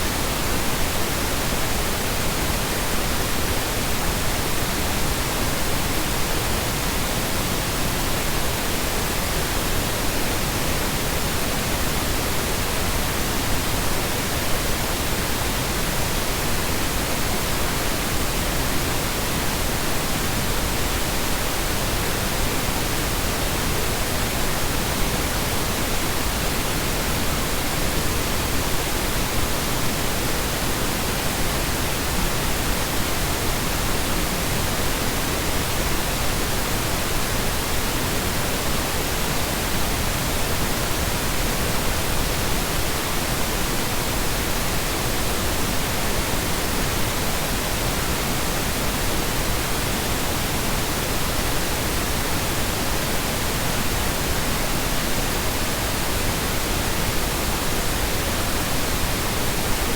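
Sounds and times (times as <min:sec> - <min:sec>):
steady noise hiss: 0:00.0 - 0:59.9.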